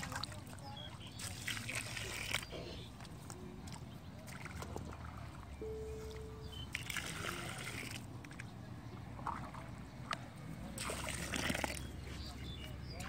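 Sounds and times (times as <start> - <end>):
muddy water sloshing and splashing: 0.0 - 13.0.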